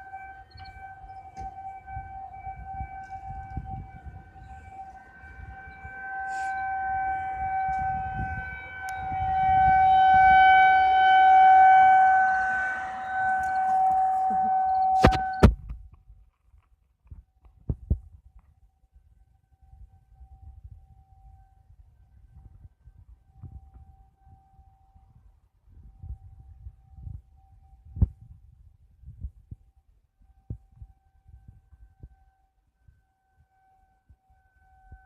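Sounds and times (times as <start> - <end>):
steady siren-like tone: 0.0 - 15.6, 18.4 - 28.6, 29.9 - 35.0.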